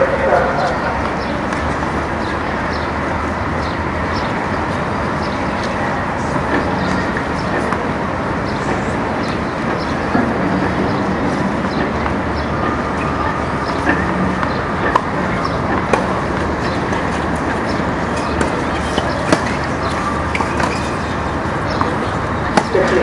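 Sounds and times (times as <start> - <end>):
rushing background noise: 0.0 - 23.0.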